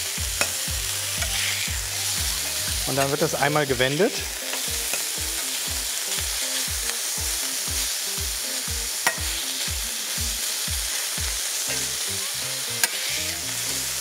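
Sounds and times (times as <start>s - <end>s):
meat sizzling on griddle: 0.0s - 14.0s.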